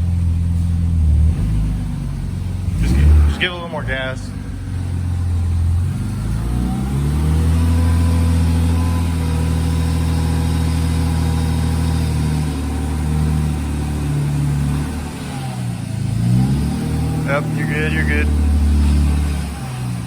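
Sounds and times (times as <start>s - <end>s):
car engine pulling away: 0.0s - 20.0s.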